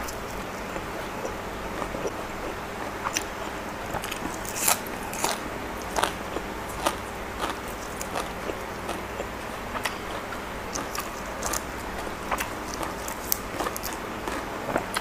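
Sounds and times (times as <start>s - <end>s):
chewing crunchy raw vegetables: 0.0s - 15.0s.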